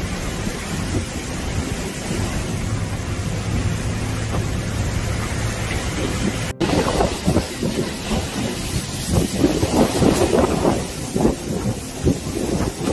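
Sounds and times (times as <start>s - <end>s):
storm wind buffeting microphone: 0.0s - 12.9s.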